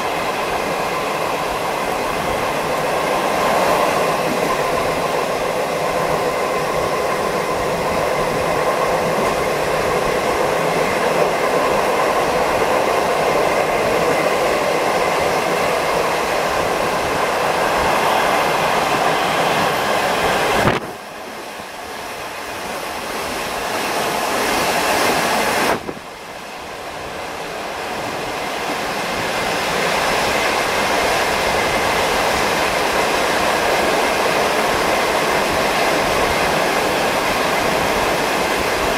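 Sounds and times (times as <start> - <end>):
train rumble: 0.0 - 38.9
wind rushing through windows: 1.4 - 21.2, 22.9 - 38.9.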